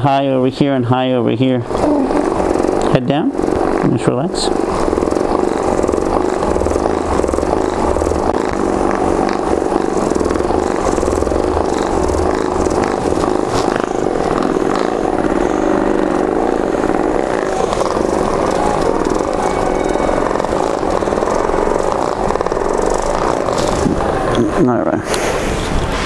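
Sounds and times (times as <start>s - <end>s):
massage gun buzzing and hammering: 0.0s - 26.0s.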